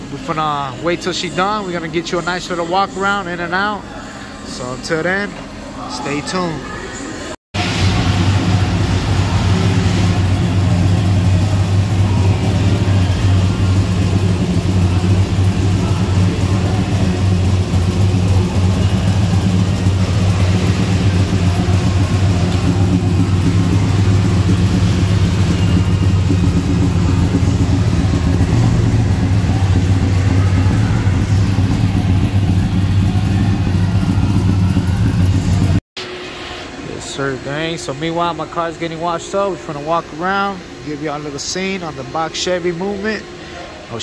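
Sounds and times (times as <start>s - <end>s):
engine idling: 7.6s - 44.0s.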